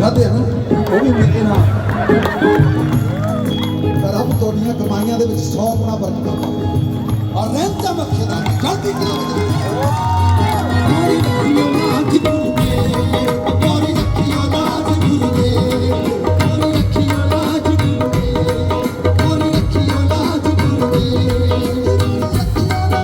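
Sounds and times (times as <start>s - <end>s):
live band playing: 0.0s - 23.0s
steady drum beat: 0.0s - 23.0s.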